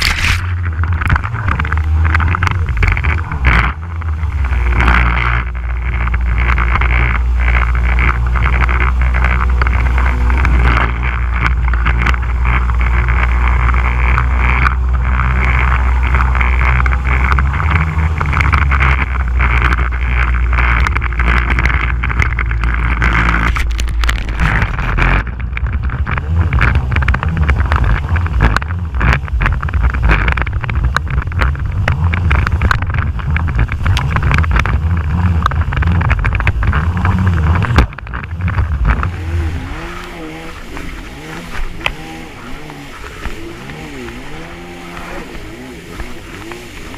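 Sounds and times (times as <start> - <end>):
jet ski engine running: 0.0 - 46.9
short splashes and knocks: 0.0 - 46.9
wind on microphone: 0.0 - 46.9.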